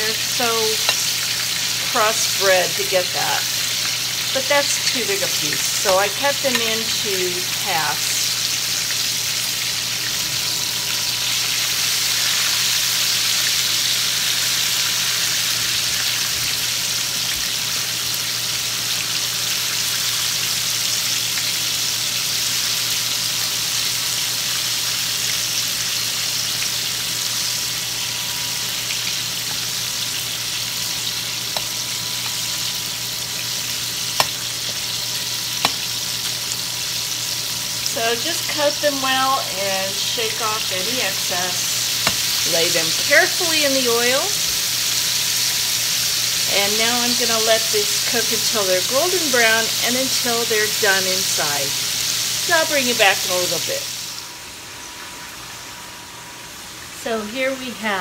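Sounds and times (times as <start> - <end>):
chicken sizzling in a skillet: 0.0 - 58.0.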